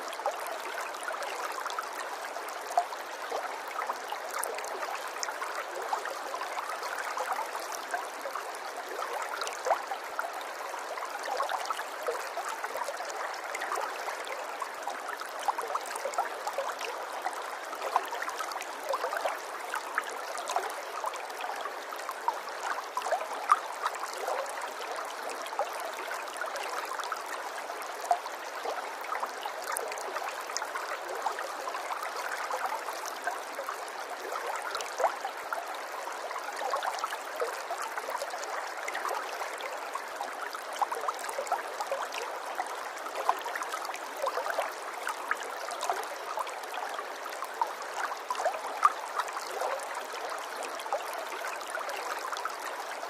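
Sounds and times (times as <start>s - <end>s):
small stream trickling: 0.0s - 53.0s.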